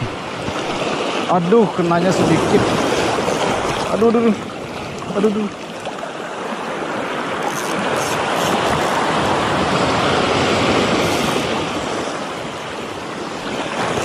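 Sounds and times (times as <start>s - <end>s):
sea surf washing onto beach: 0.0s - 14.0s.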